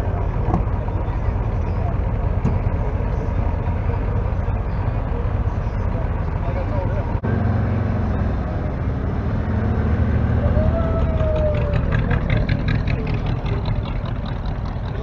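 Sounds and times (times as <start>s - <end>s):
engine rumble: 0.0s - 15.0s
pickup truck driving past: 0.0s - 15.0s.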